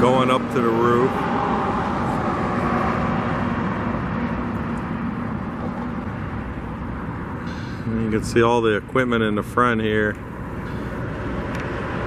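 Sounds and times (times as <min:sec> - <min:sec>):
faint low engine hum: 0:00.0 - 0:12.0
road traffic noise: 0:00.0 - 0:12.0.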